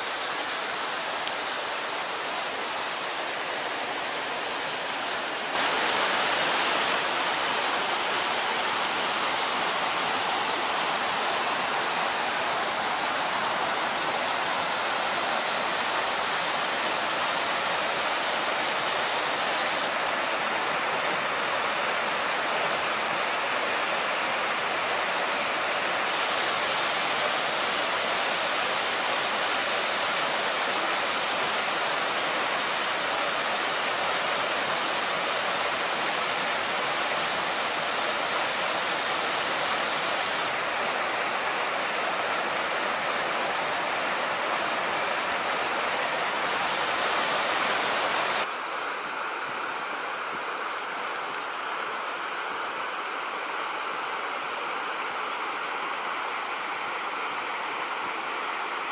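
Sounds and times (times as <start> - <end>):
river rushing over rapids: 0.0 - 58.9.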